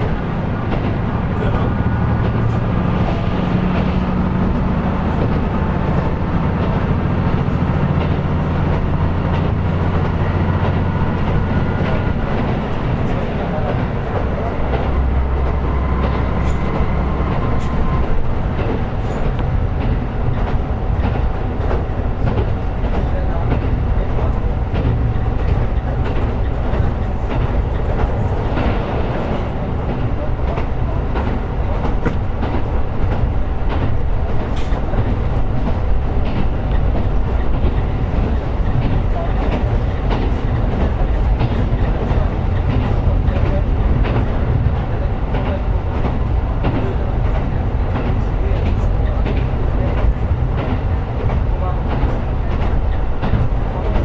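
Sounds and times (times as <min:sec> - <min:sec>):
railcar engine and wheels rumbling: 0:00.0 - 0:54.0
wheels clicking over track: 0:00.0 - 0:54.0.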